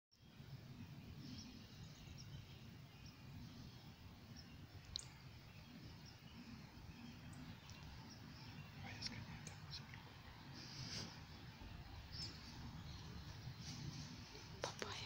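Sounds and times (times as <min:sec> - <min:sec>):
small bird chirps: 0:00.2 - 0:15.0.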